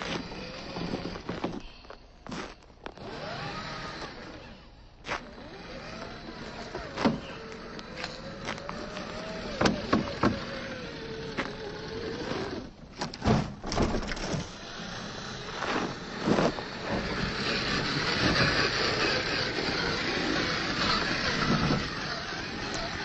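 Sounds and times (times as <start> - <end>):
electric motor whining: 0.0 - 1.6, 2.8 - 12.9, 14.4 - 23.0.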